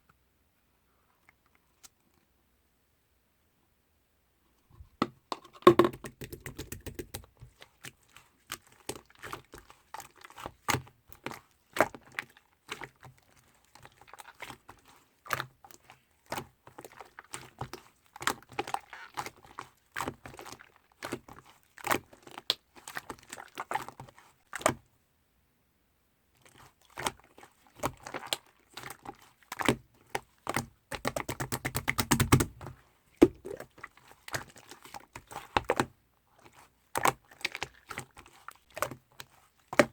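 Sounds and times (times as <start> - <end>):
slime squelching and popping: 5.7 - 24.8, 26.4 - 39.9.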